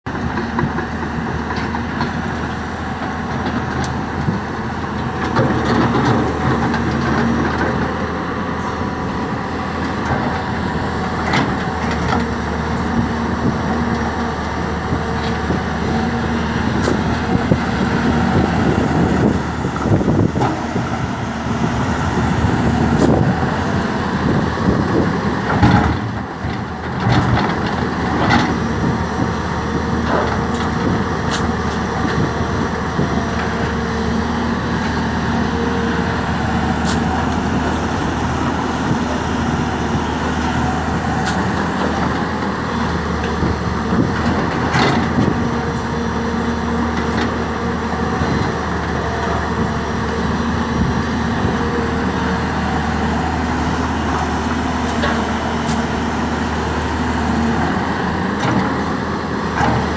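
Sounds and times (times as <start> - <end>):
excavator engine and hydraulics: 0.1 - 59.9.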